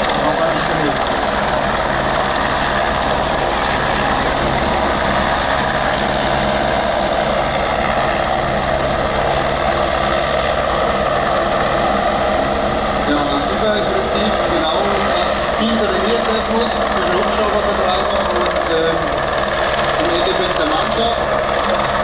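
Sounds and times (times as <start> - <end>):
helicopter turbine and rotor: 0.0 - 22.0.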